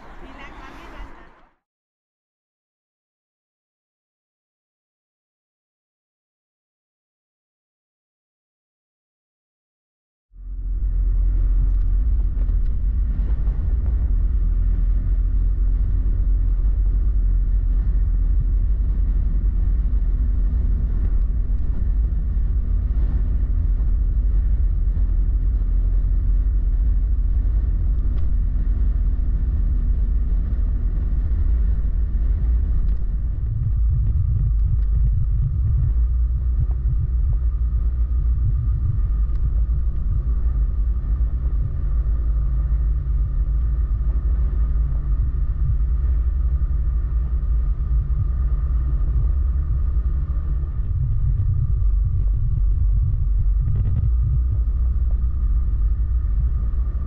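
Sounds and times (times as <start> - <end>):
motorcycle engine rumble: 10.4 - 57.0
wind rush: 10.8 - 57.0.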